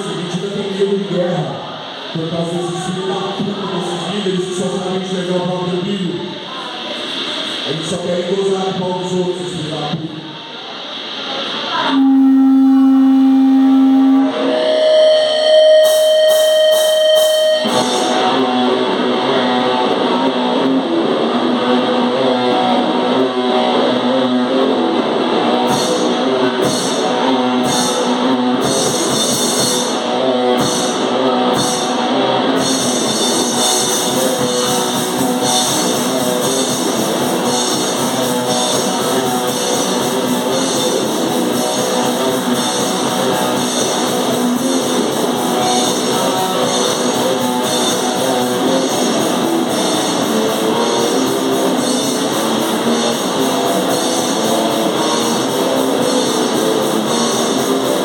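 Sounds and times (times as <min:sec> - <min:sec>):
distorted electric guitar: 0:00.0 - 0:58.0
drums: 0:00.0 - 0:58.0.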